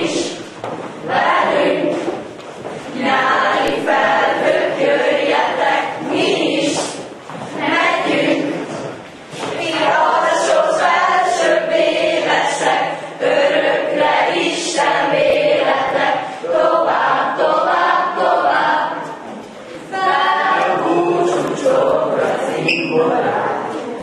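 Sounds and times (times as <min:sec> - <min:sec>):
group singing in chorus: 0:00.0 - 0:24.0.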